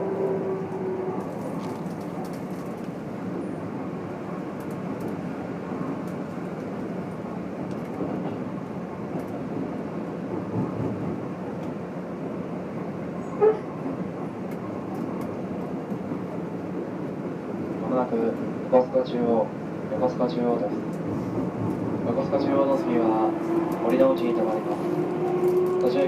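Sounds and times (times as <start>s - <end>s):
train wheels and motors rumbling: 0.0s - 26.0s.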